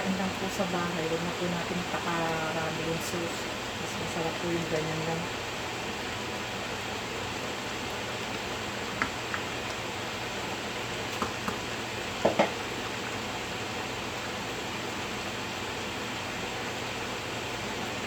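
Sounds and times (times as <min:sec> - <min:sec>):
stew simmering in a pan: 0:00.0 - 0:16.6.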